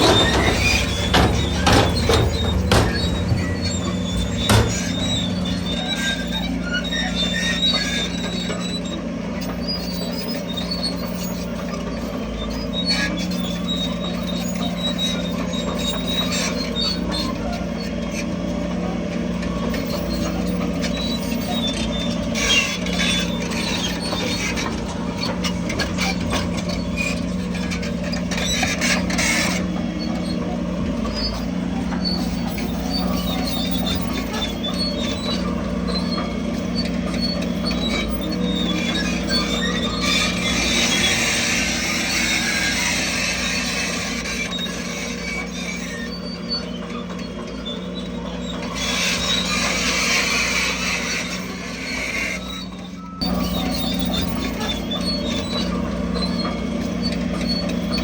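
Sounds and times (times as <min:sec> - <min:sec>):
bulldozer diesel engine running: 0:00.0 - 0:58.0
steel tracks squealing: 0:00.0 - 0:58.0.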